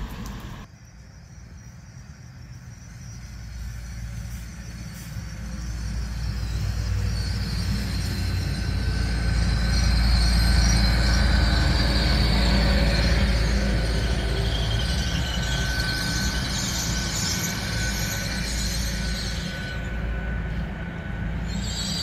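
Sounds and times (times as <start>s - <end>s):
train rumbling past: 0.0s - 22.0s
thin high whine: 0.6s - 22.0s.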